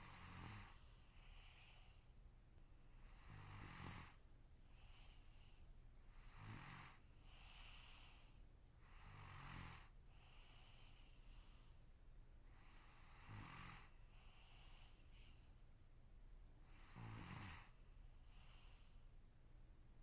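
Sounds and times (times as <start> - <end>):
person snoring quietly: 0.0 - 2.0, 2.9 - 11.7, 12.4 - 15.4, 16.6 - 19.0.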